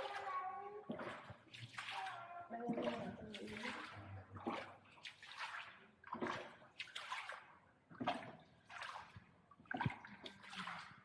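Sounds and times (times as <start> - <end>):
oars splashing in water: 0.0 - 11.0.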